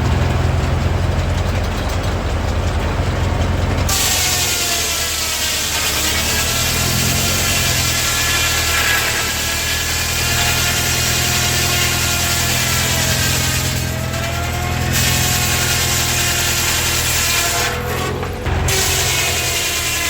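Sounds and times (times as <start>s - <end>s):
old engine running: 0.0s - 20.0s.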